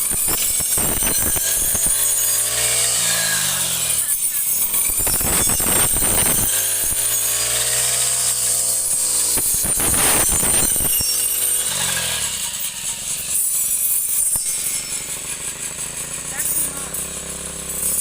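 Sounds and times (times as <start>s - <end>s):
rasping cutting noise: 0.0s - 18.0s
small engine cutting tool running: 0.0s - 18.0s.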